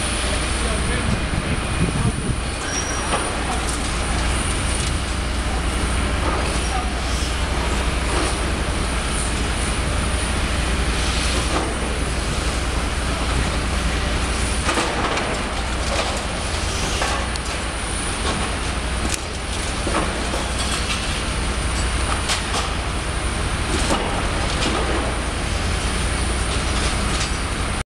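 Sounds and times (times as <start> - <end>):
excavator engine running: 0.0 - 27.8.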